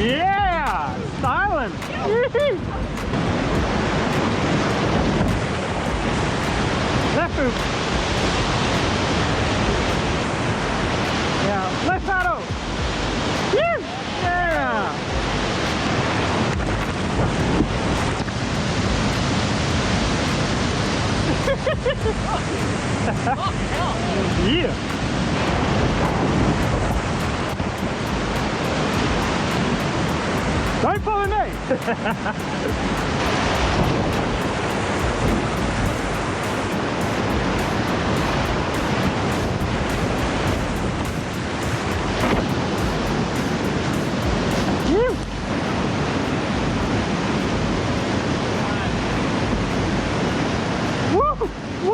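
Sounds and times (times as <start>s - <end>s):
whitewater rushing: 0.0s - 51.9s
wind noise on microphone: 0.0s - 51.9s.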